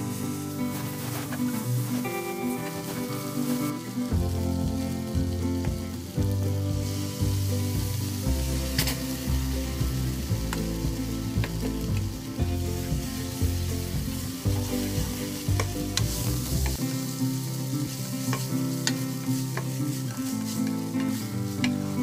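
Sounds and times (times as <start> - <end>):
food sizzling in a frying pan: 0.0 - 22.0
spatula stirring in pan: 0.2 - 6.0, 6.8 - 22.0.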